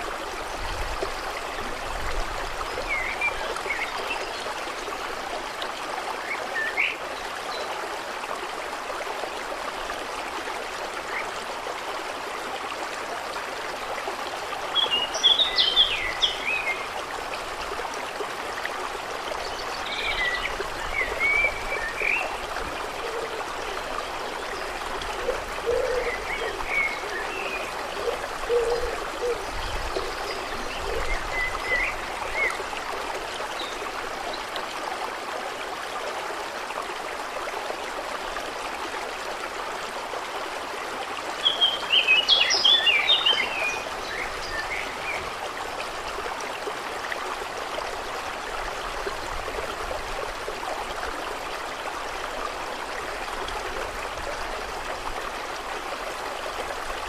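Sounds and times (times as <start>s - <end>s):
running water trickling: 0.0s - 57.0s.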